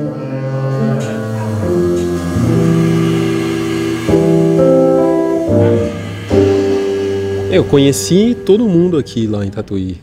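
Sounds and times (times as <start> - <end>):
slow jazz piano chords: 0.0 - 9.0.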